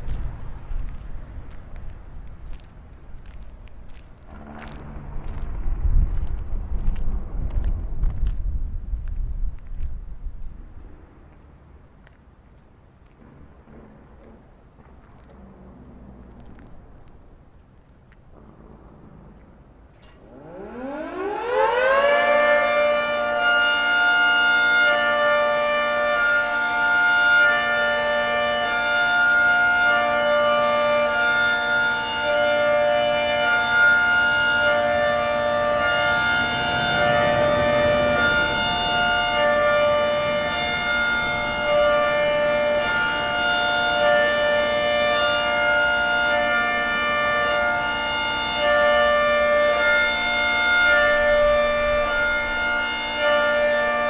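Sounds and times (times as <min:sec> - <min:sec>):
warning siren alternating high and low: 0:00.0 - 0:11.7, 0:13.0 - 0:54.0.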